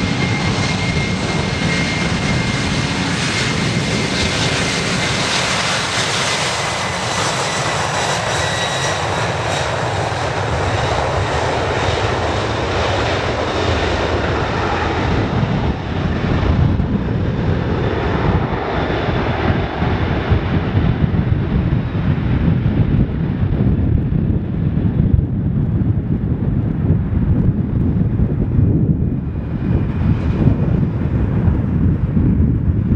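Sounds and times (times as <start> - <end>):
jet engine roar: 0.0 - 32.9
wind gusts on microphone: 0.0 - 32.9.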